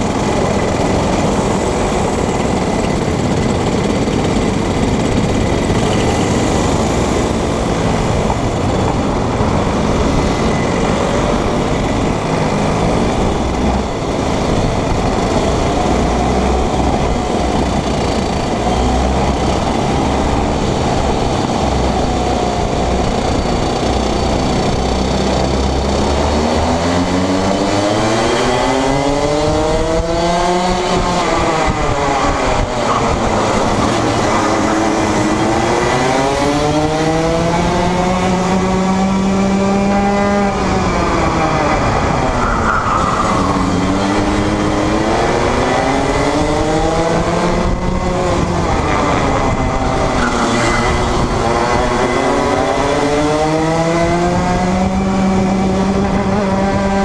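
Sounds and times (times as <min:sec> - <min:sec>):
kart engine revving up: 0:00.0 - 0:57.0
kart engines running together: 0:00.0 - 0:57.0.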